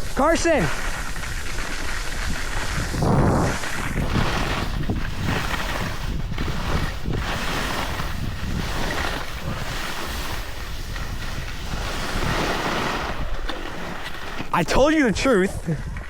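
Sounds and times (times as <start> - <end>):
skis hissing on snow: 0.0 - 15.8
wind rushing over microphone: 0.0 - 16.0.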